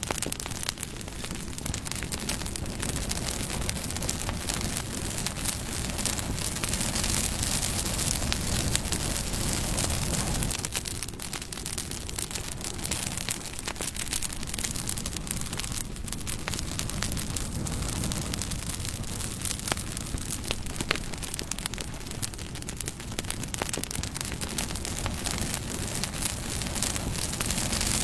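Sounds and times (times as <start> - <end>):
bonfire crackling and popping: 0.0 - 28.0.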